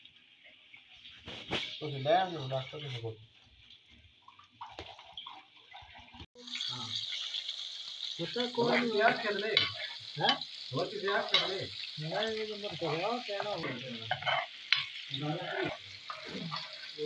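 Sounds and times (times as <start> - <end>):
fish deep-frying in oil: 0.0 - 17.0.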